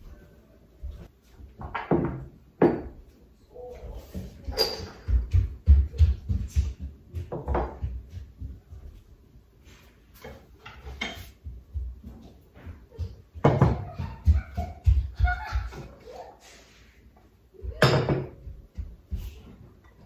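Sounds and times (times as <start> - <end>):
footsteps: 0.0 - 1.6, 3.6 - 20.0.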